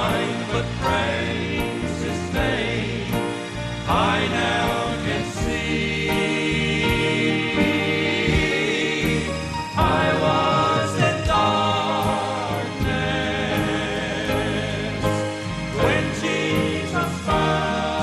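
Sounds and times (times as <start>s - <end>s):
gospel group singing with backing: 0.0s - 18.0s.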